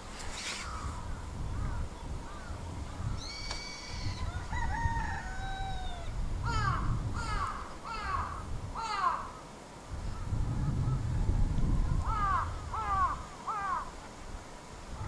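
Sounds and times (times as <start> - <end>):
birds calling: 0.0 - 11.1, 11.8 - 14.0.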